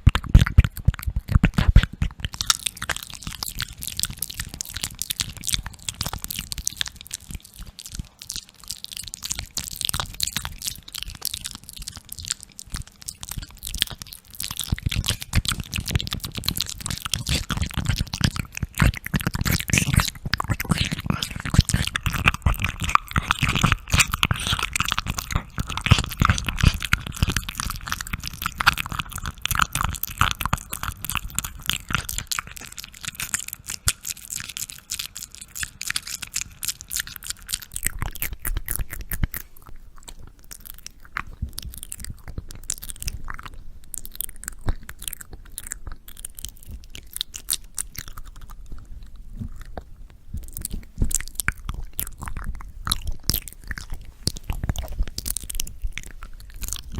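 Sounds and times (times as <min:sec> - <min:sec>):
crackly crunching and clicking: 0:00.0 - 0:56.9.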